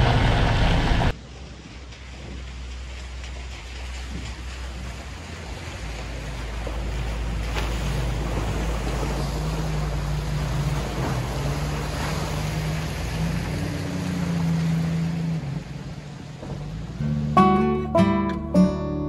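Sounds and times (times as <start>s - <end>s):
truck engine hum: 0.0s - 19.0s
water splashing around tyres: 1.1s - 17.2s.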